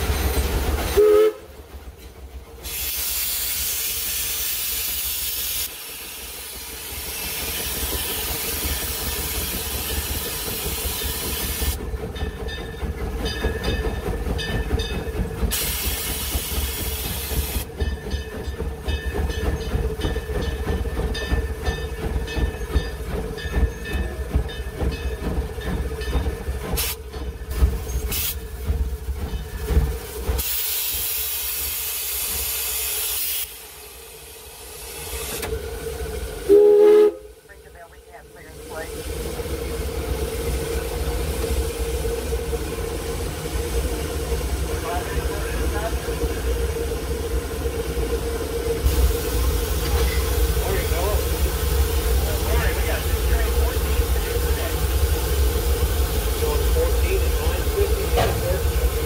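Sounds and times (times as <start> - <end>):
locomotive rumbling and clattering: 0.0 - 3.3, 6.7 - 31.3, 37.4 - 59.0
loud steam hissing: 2.4 - 12.1, 15.0 - 18.7, 25.1 - 59.0.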